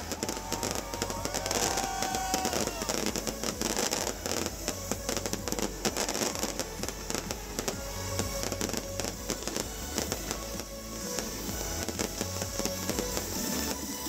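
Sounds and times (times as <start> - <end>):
electronic dance music: 0.0 - 14.0
fireworks cracking: 0.0 - 14.0.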